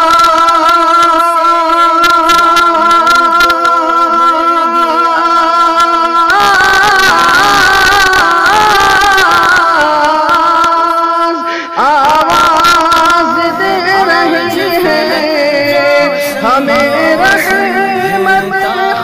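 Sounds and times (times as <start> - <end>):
wordless melodic singing: 0.0 - 19.0.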